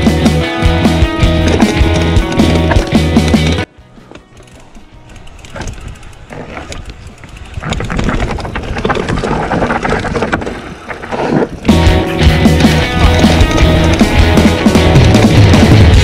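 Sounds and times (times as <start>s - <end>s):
bike tyres crunching over dirt: 0.4s - 16.0s
bike knocking and rattling: 0.9s - 16.0s.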